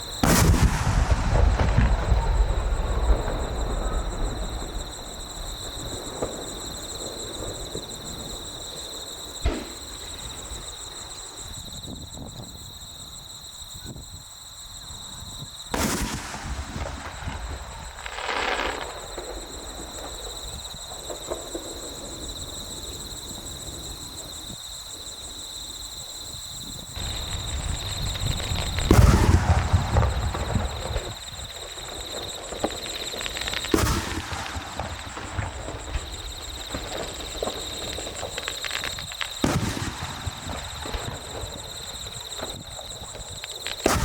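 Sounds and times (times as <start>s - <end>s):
fireworks crackling: 0.0s - 12.8s, 15.7s - 25.8s, 26.5s - 44.0s
fireworks bursting: 0.0s - 13.0s, 15.7s - 44.0s
fireworks boom with deep rumble: 0.0s - 44.0s.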